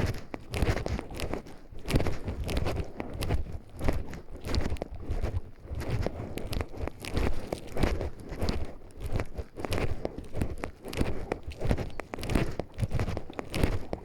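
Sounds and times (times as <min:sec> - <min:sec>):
footsteps crunching on forest path: 0:00.0 - 0:14.0
rustling: 0:00.0 - 0:14.0.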